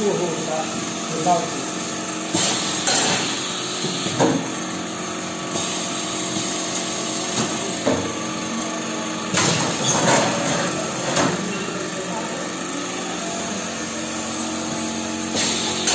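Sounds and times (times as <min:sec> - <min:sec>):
machinery humming: 0:00.0 - 0:15.9.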